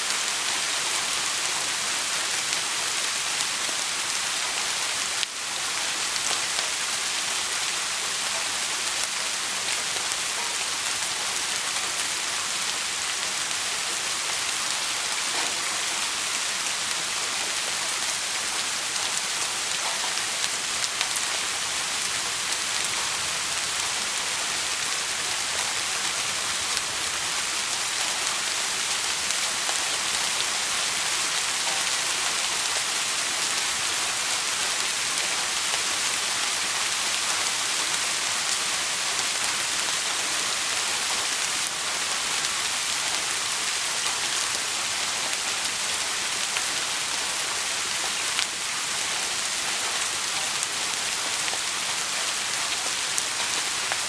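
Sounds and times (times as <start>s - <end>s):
dense rain pattering: 0.0s - 54.0s.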